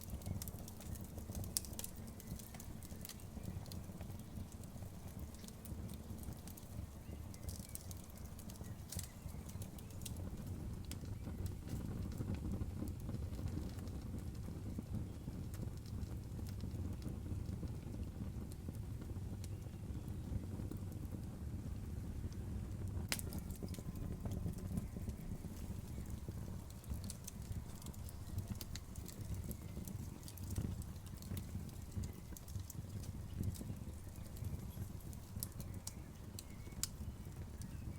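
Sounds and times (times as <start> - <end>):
burning wood crackling and popping: 0.0 - 37.9
fluttering rumble of flames: 0.0 - 37.9.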